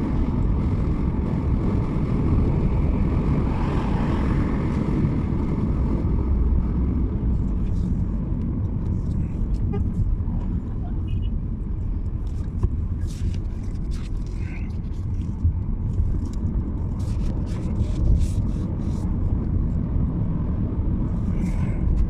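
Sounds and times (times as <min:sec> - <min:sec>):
car road rumble: 0:00.0 - 0:22.0.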